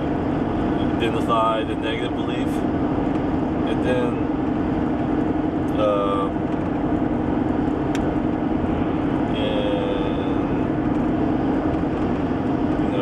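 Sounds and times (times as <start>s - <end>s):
vehicle rumble and hiss: 0.0s - 13.0s.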